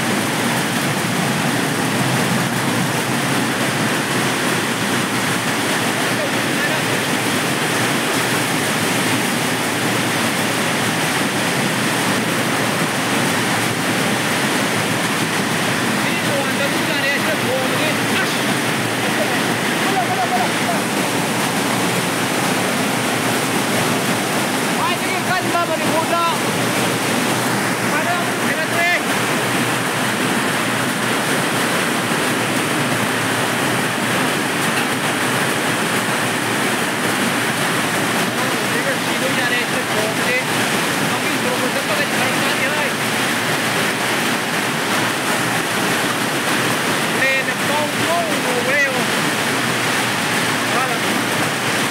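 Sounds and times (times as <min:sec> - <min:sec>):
hail and rain pouring down: 0:00.0 - 0:51.9
strong wind: 0:00.0 - 0:51.9.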